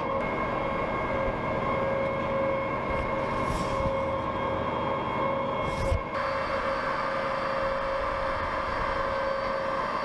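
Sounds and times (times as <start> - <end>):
machine drone and whine: 0.0 - 10.0.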